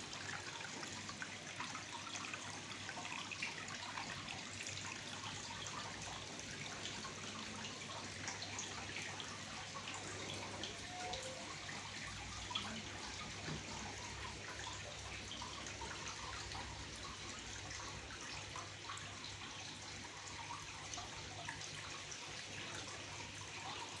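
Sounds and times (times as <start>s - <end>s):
water trickling and dripping: 0.0s - 24.0s.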